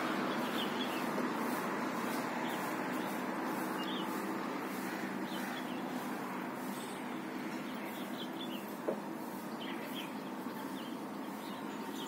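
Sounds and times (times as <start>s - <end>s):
outdoor background hum: 0.0s - 12.0s
small birds chirping: 0.0s - 12.0s.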